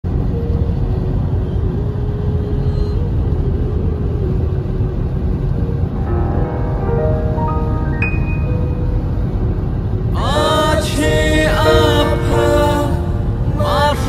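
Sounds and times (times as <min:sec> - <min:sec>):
road and wind noise in car: 0:00.0 - 0:14.0
music: 0:00.2 - 0:14.0.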